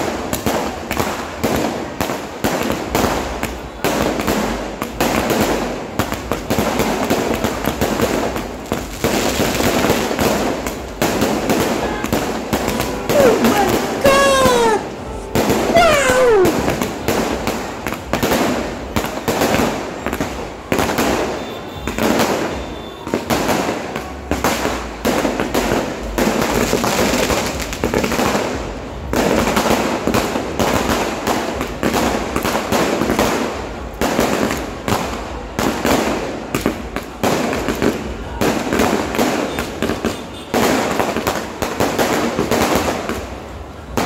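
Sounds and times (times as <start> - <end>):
fireworks banging and crackling: 0.0 - 44.0.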